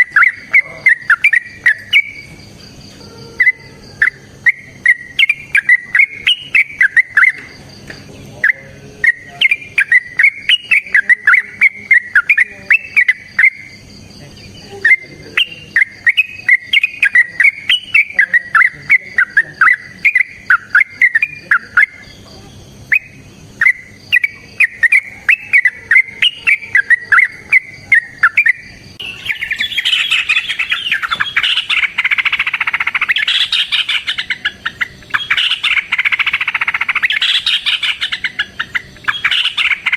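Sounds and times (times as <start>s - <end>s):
bird singing bubbly chirps: 0.0s - 39.9s.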